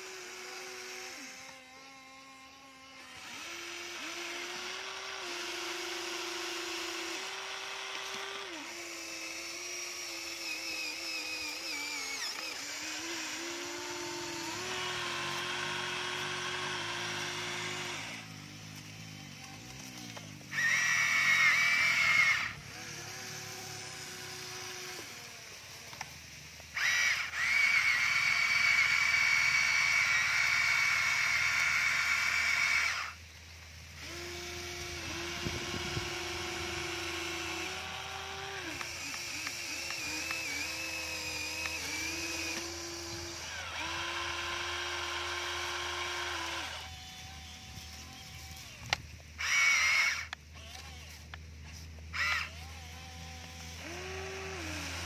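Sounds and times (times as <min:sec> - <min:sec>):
toy excavator motors whining: 0:00.0 - 0:55.0.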